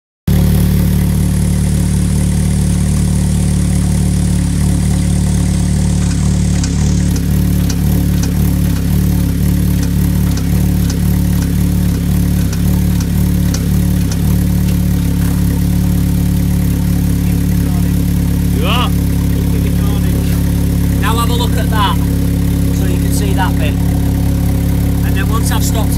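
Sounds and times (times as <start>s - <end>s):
car engine idling: 0.3s - 25.9s
engine knocking clicks: 0.3s - 25.9s.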